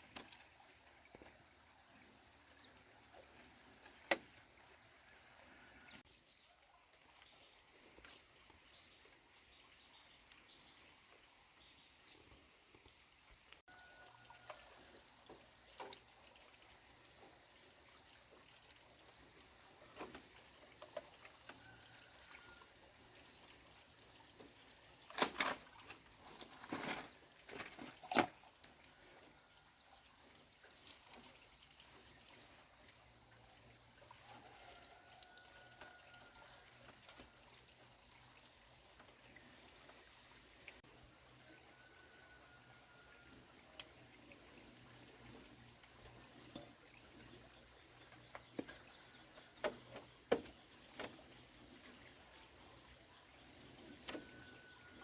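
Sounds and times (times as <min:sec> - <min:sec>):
water pouring and splashing: 0:00.0 - 0:09.5, 0:12.8 - 0:55.0.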